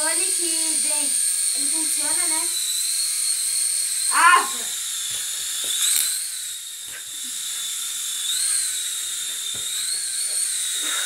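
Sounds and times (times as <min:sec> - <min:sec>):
toy drone motor whining: 0:00.0 - 0:11.0.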